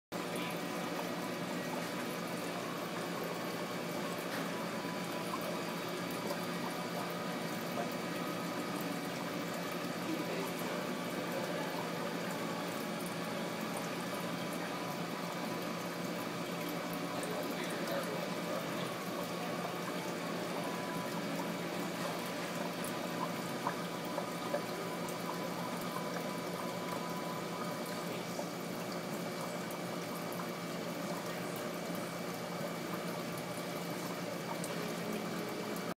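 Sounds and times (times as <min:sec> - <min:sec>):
aquarium water bubbling: 0:00.2 - 0:35.9
faint steady hum: 0:00.2 - 0:35.9.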